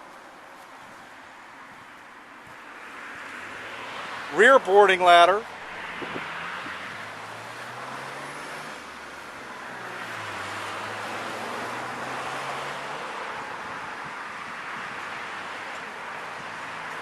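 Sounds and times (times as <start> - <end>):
road traffic rush: 0.0 - 17.0.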